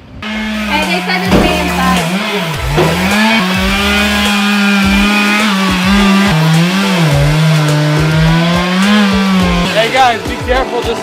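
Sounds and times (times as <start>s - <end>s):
chainsaw running at full throttle: 0.0s - 10.4s.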